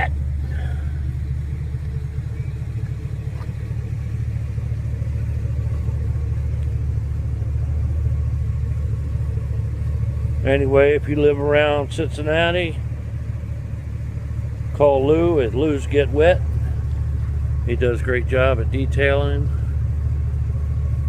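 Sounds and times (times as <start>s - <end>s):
pickup truck engine idling: 0.0s - 21.0s.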